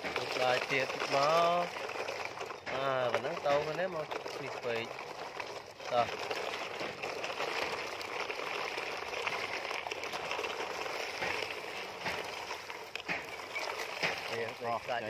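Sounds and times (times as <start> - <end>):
toy truck wheels rolling on gravel: 0.0 - 15.0.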